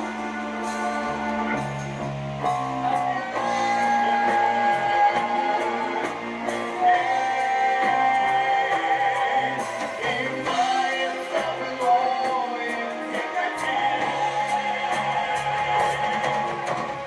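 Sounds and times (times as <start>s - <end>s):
guitar accompaniment: 0.0s - 17.0s
person singing long notes: 0.0s - 17.0s.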